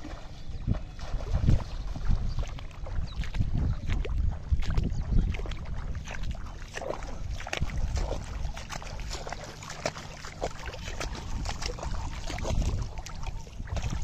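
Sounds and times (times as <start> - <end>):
feet wading through water: 0.0 - 14.0
wind on microphone: 0.0 - 14.0.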